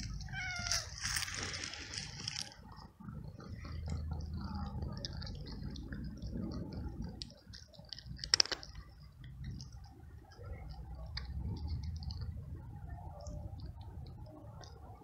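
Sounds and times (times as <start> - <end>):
cat crunching dry kibble: 0.0 - 14.8.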